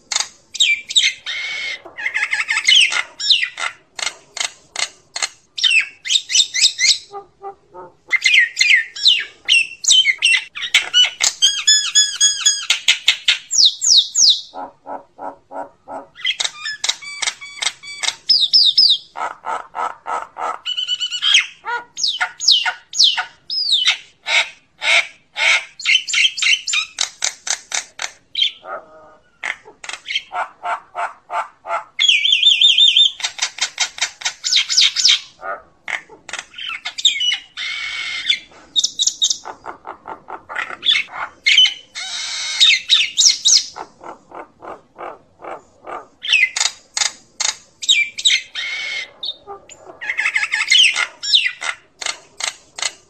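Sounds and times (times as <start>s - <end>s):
myna chattering calls: 0.1s - 53.0s.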